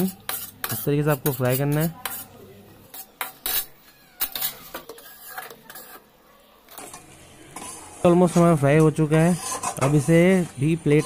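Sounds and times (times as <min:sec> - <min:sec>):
flour frying in oil: 0:00.0 - 0:11.0
metal spatula scraping a pan: 0:00.0 - 0:11.0.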